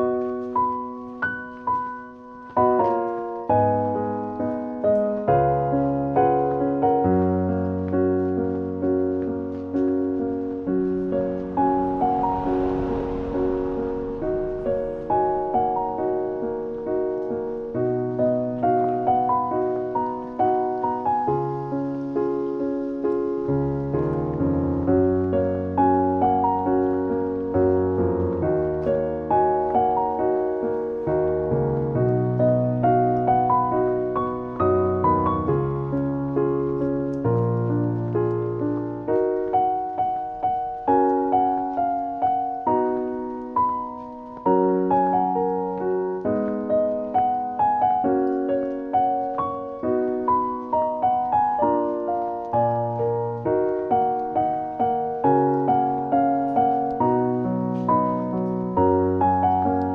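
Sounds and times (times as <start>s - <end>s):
calm piano music: 0.0s - 59.9s.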